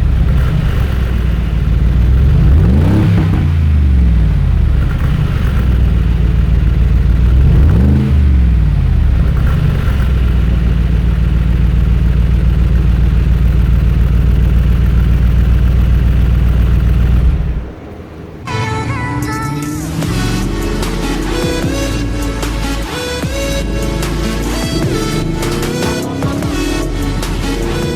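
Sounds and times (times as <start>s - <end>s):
car engine revving and idling: 0.0s - 27.9s.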